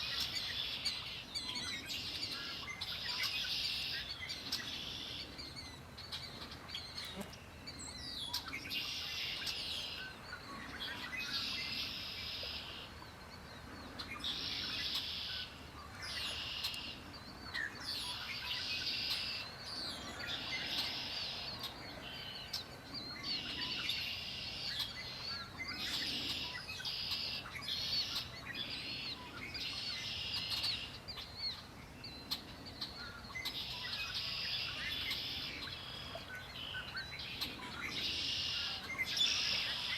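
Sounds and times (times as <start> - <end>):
bird chirps: 0.0 - 39.9.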